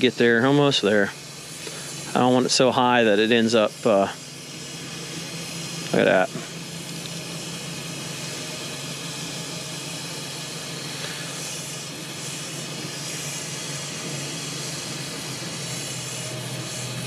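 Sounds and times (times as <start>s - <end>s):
brazing torch hissing: 0.0s - 17.0s.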